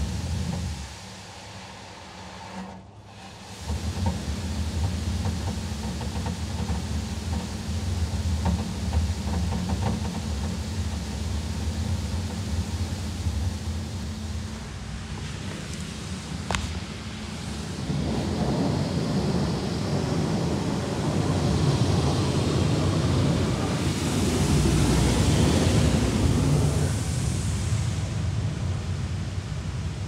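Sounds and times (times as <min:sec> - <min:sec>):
low hum of wash machinery: 0:00.0 - 0:30.0.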